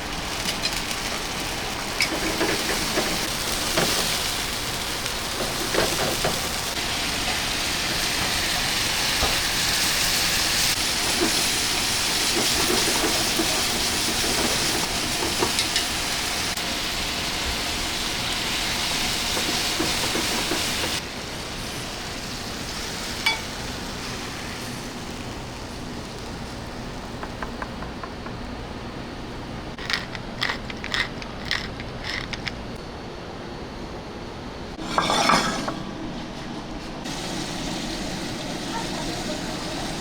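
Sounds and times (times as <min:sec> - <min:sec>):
steady kitchen hiss: 0:00.0 - 0:40.0.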